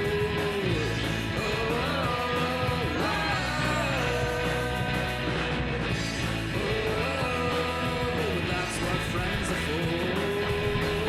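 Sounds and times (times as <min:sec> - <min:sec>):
rock song with guitar and drums: 0:00.0 - 0:11.0.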